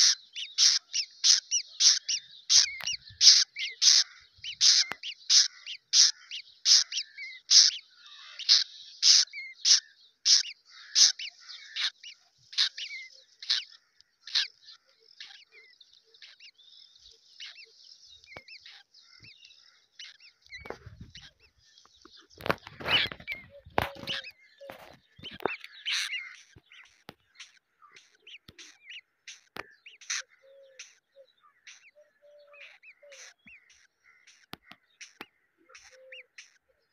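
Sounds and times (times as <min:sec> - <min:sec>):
crow nestlings cheeping: 0:00.0 - 0:36.9.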